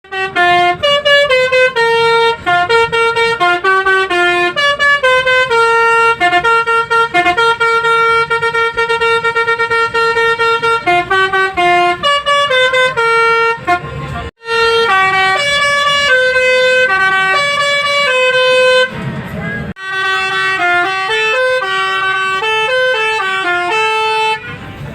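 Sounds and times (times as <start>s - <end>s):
multi-tone bus horn melody: 0.0s - 24.9s.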